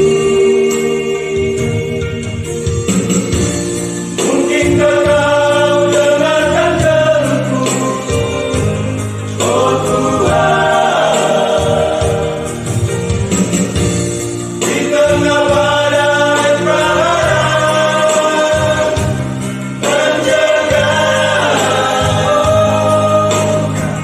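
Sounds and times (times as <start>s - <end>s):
group singing gospel in harmony: 0.0s - 24.0s
instrumental accompaniment: 0.0s - 24.0s.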